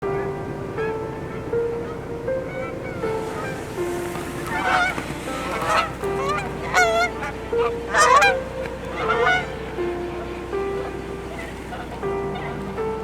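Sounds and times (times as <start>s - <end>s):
background music: 0.0s - 13.0s
geese honking: 0.0s - 13.0s.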